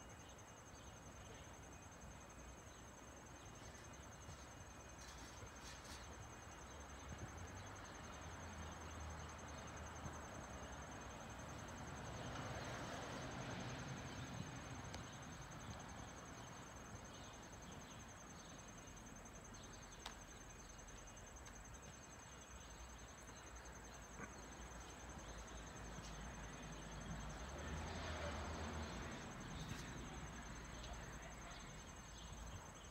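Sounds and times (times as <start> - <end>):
insects trilling: 0.0 - 32.9.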